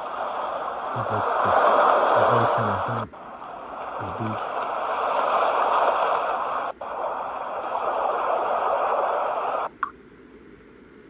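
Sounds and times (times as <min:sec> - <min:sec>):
white noise machine ocean waves: 0:00.0 - 0:11.0.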